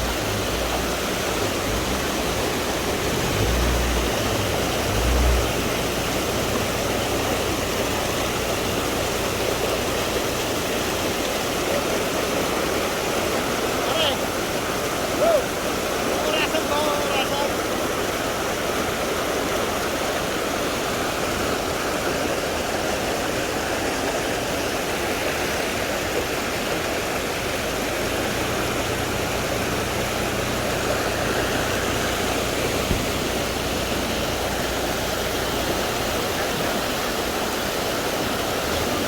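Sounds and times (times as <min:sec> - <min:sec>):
waterfall roar: 0:00.0 - 0:39.0.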